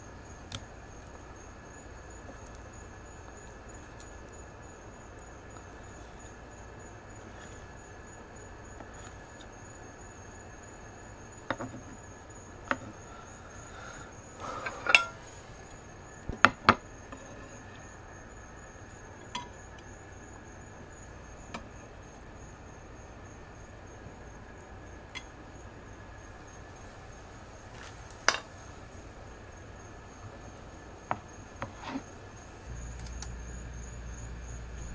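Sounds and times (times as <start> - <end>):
cricket trill: 0.0 - 34.9.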